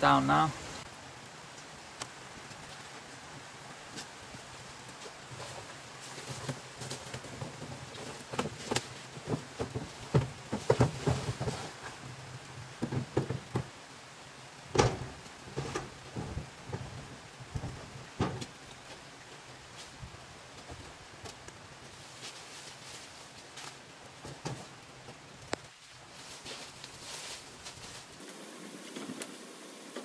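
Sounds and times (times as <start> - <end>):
heavy rain: 0.0 - 30.0
rustling crackles: 0.5 - 30.0.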